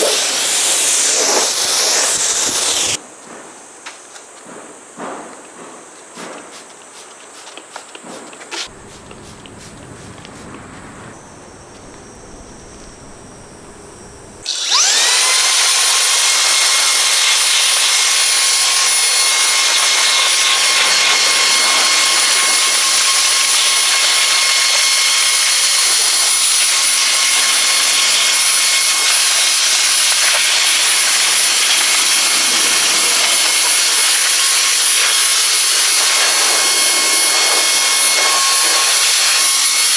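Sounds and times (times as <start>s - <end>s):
electric air blower whining: 0.0s - 3.0s, 8.7s - 39.9s.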